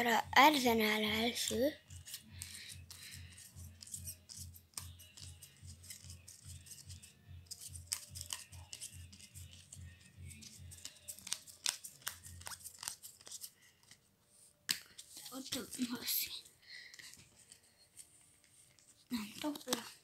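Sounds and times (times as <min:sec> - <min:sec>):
cards rustling and clicking: 0:01.3 - 0:14.1, 0:14.7 - 0:20.0.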